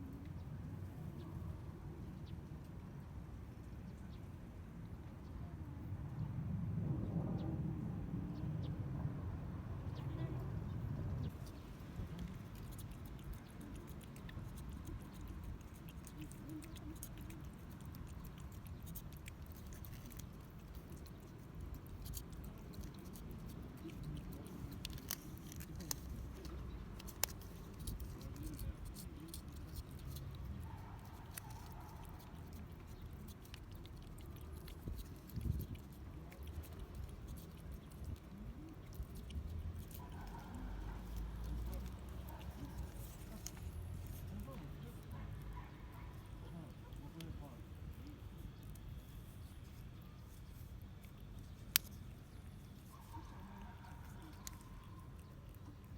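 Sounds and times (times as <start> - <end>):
cat crunching and chewing food: 9.9 - 55.9.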